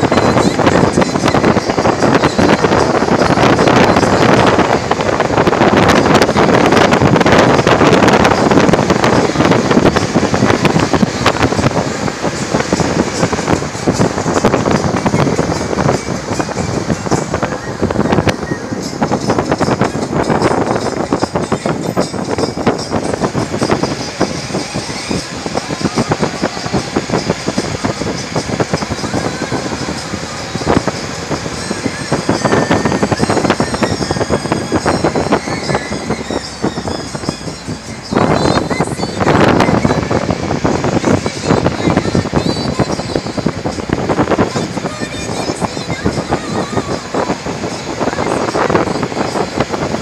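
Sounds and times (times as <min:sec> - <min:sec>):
road noise: 0:00.0 - 0:50.0
wind buffeting microphone: 0:00.0 - 0:50.0.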